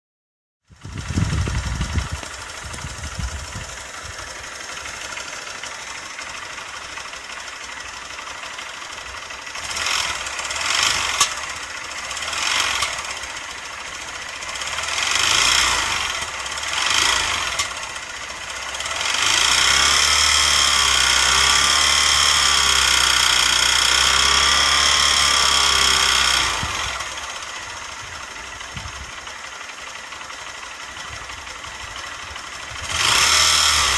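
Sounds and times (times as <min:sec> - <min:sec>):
motorcycle engine idling and revving: 0:00.6 - 0:33.9.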